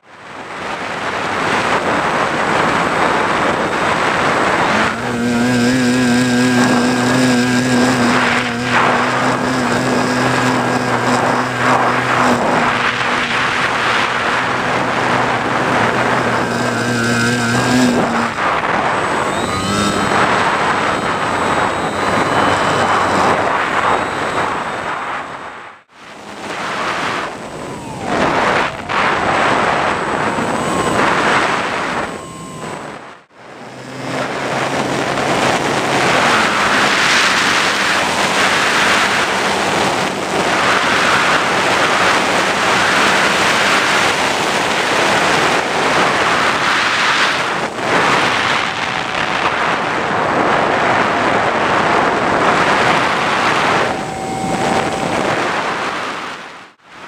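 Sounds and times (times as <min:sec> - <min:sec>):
wind rushing over camera: 0:00.0 - 0:57.0.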